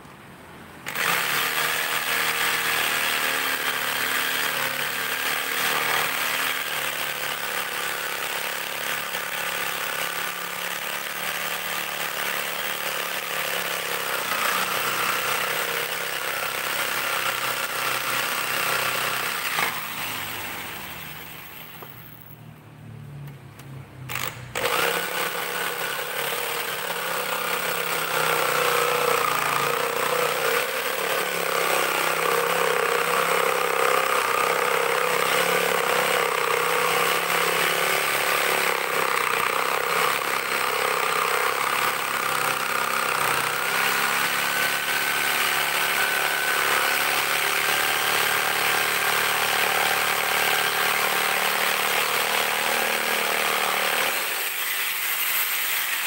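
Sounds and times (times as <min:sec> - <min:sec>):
electric jigsaw sawing wood: 0:00.8 - 0:22.2, 0:24.1 - 0:56.0.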